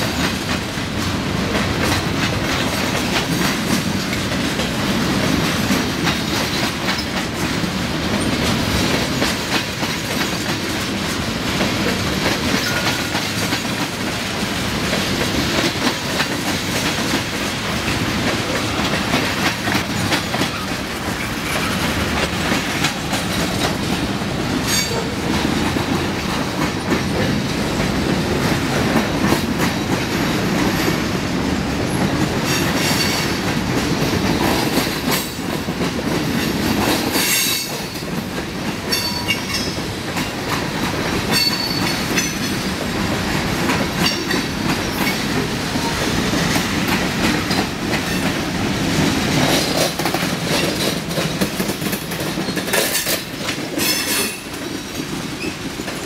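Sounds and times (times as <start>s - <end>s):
wheels clacking over rail joints: 0.0s - 56.0s.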